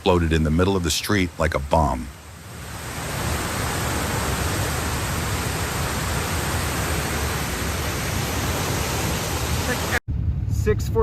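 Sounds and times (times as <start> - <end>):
water jetting from burst main: 0.0 - 10.0.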